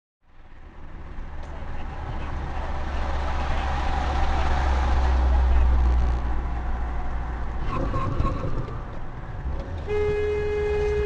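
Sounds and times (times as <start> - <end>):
vehicle engine rumble: 0.2 - 11.0.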